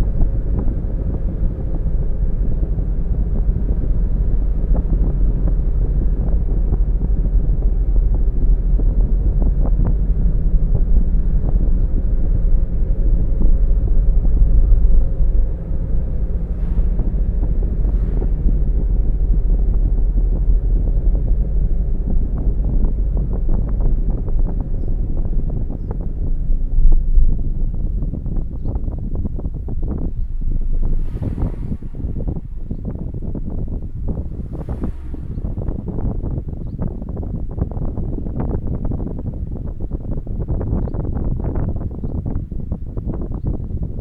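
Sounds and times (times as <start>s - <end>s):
car driving on road: 0.0s - 43.9s.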